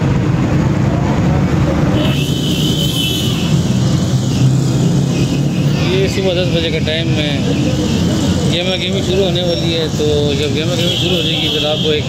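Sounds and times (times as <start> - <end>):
rumble of traffic engines: 0.0 - 12.0.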